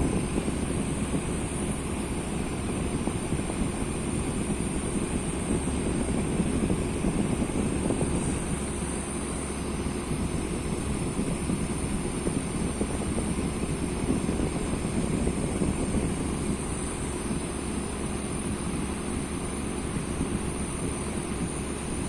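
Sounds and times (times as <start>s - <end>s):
fan heater blowing air: 0.0s - 22.0s.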